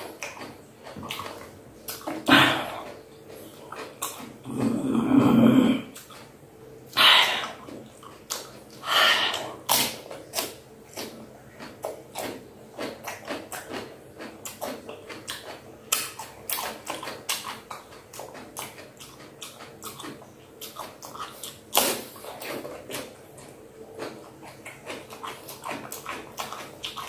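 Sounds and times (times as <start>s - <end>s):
cucumber crunching while chewed: 0.0s - 27.0s.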